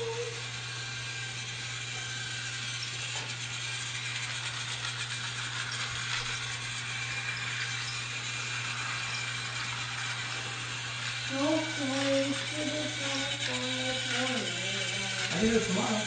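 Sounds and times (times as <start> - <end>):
toy train humming and rattling: 0.0 - 16.0.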